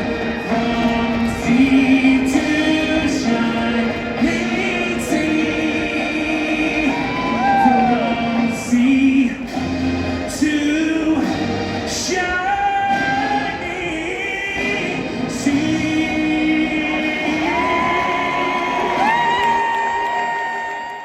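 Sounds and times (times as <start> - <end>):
person singing long gliding notes: 0.0 - 21.0.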